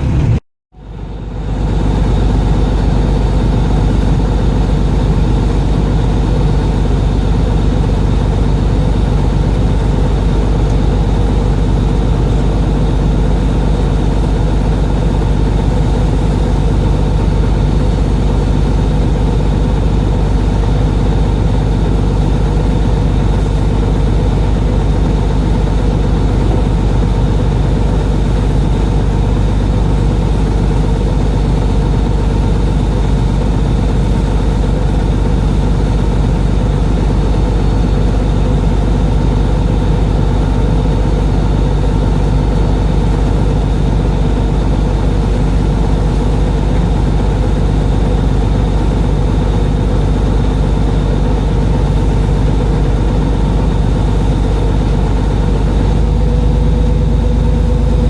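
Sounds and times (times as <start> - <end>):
boat engine humming: 0.0 - 58.0.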